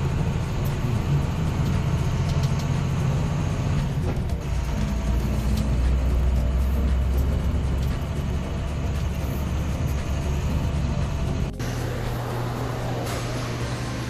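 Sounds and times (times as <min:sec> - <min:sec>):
diesel truck engine rumbling: 0:00.0 - 0:14.0
low mechanical hum: 0:00.0 - 0:14.0.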